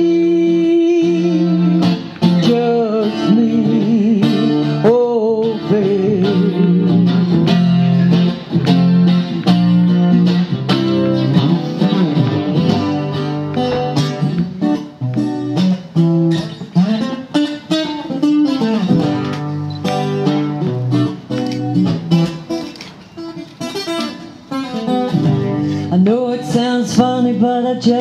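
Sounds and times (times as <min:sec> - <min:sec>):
guitar strumming chords: 0:00.0 - 0:28.0.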